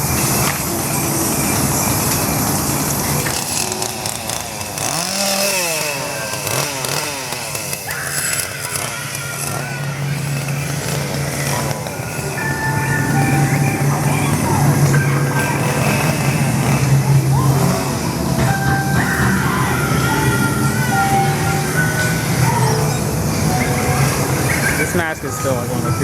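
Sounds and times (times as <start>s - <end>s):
chainsaw revving: 0.0s - 25.8s.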